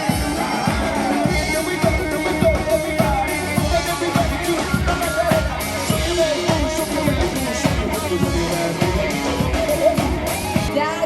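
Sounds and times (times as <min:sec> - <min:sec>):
steady drum beat: 0:00.0 - 0:10.9
guitar: 0:00.0 - 0:11.0
live pop-rock band: 0:00.0 - 0:11.0
person singing: 0:00.0 - 0:11.0.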